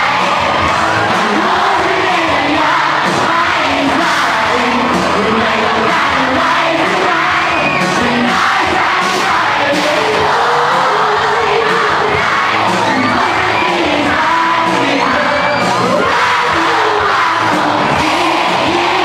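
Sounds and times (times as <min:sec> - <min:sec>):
bass guitar: 0:00.0 - 0:19.0
drum kit: 0:00.0 - 0:19.0
person singing into a microphone: 0:00.0 - 0:19.0.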